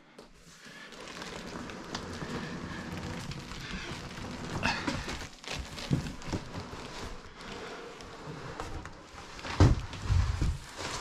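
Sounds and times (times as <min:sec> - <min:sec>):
cardboard box scraping and rustling: 0:00.4 - 0:11.0.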